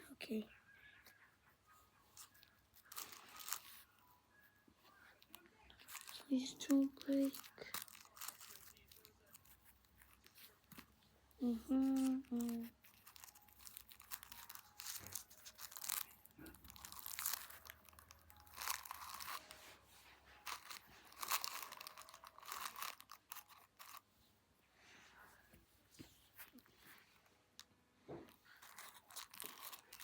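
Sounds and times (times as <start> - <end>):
hands crinkling pipe cleaners: 0.3 - 30.0.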